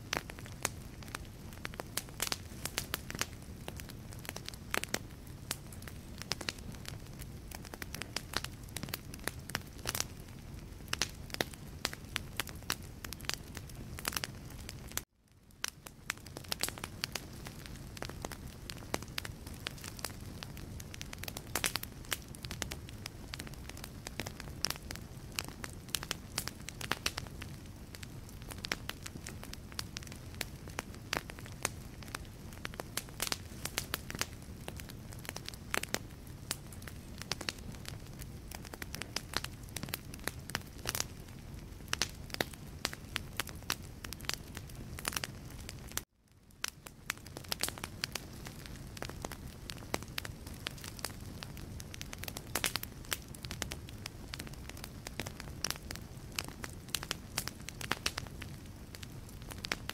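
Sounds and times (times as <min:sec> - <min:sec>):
logs crackling and popping: 0:00.0 - 0:59.9
low rumble of flame: 0:00.0 - 0:59.9.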